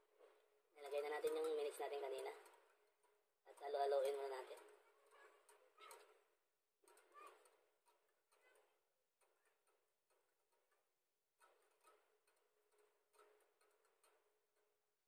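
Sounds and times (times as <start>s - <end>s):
wire whisk ticking against bowl: 0.9s - 6.2s, 6.8s - 14.8s.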